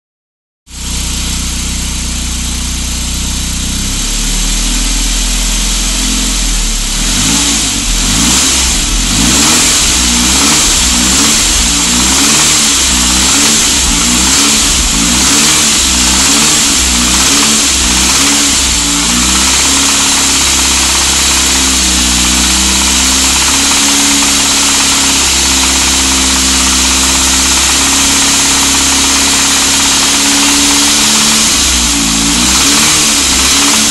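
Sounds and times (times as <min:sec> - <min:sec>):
car engine idling and revving: 0:00.7 - 0:33.9
engine knocking: 0:00.7 - 0:33.9.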